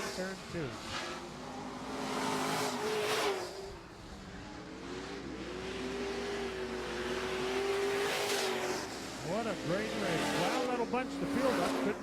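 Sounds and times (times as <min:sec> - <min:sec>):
racing truck engines: 0:00.0 - 0:12.0.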